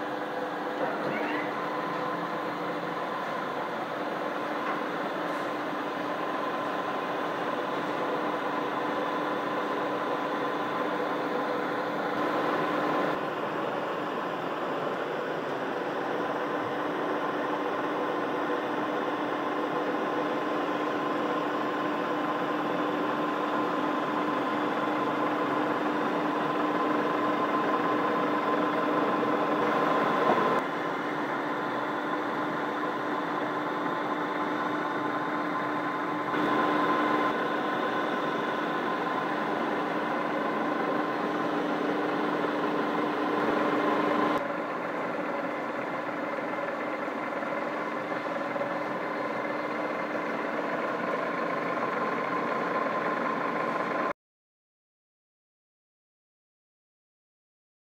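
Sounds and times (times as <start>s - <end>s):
motor whine: 0.0s - 53.8s
metal lathe running: 0.0s - 54.1s.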